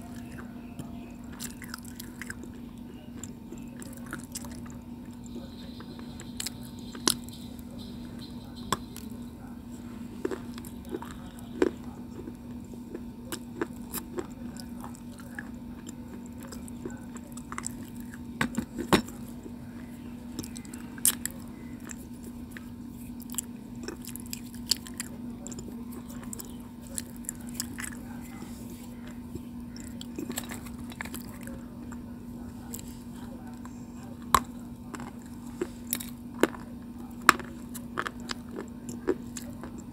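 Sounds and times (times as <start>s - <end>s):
person chewing crunchy clay: 0.0s - 39.9s
steady low hum: 0.0s - 39.9s.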